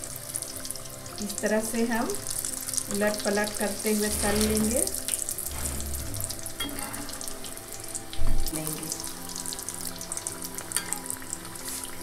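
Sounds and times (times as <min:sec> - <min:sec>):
puris deep-frying in oil: 0:00.0 - 0:12.0
soft background music: 0:00.0 - 0:12.0.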